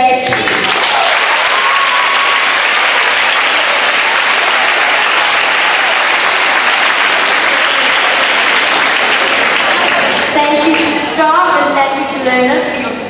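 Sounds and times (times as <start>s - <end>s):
crowd applauding and cheering: 0.2s - 11.2s.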